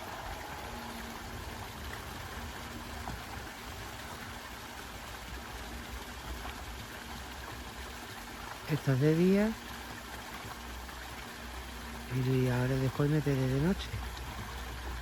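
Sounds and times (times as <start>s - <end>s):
faint pump hum: 0.0s - 15.0s
fountain water splashing: 0.0s - 15.0s.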